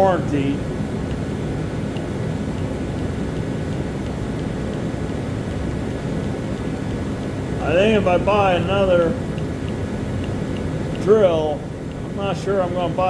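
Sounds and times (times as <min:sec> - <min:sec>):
machinery droning hum: 0:00.0 - 0:13.0.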